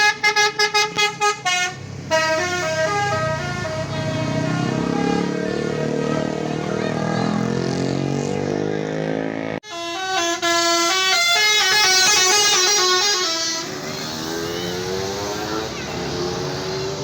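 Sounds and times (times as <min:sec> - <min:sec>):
bus multi-tone musical horn: 0:00.0 - 0:07.6, 0:09.6 - 0:17.0
bus engine: 0:00.0 - 0:17.0.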